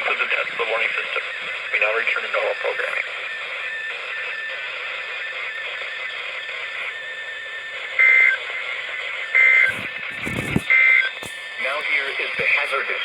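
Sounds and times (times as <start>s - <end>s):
radio static hiss: 0.0s - 13.0s
two-tone data burst: 0.0s - 13.0s.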